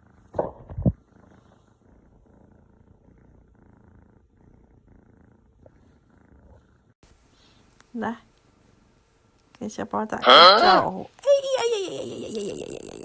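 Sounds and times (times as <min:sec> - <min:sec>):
cat purring: 0:00.0 - 0:11.2.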